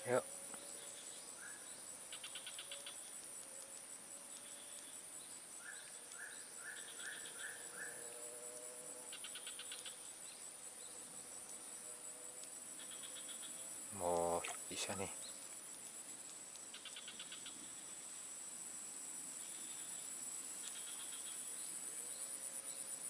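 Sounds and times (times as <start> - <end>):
high-pitched insect chorus: 0.0 - 23.0
short insect chirps: 0.0 - 23.0.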